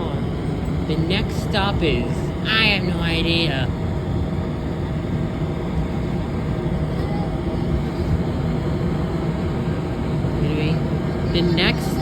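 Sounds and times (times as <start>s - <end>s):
train rumbling at platform: 0.0s - 12.0s.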